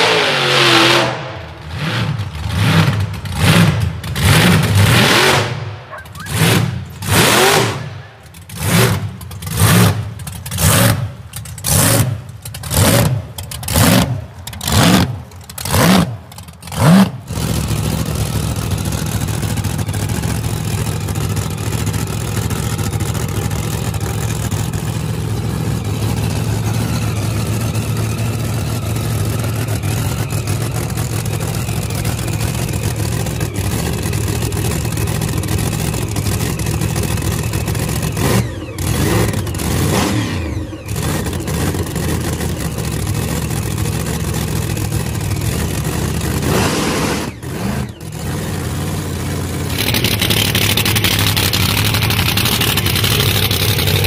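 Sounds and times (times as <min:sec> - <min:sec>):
supercharged engine idling and revving: 0:00.0 - 0:54.0.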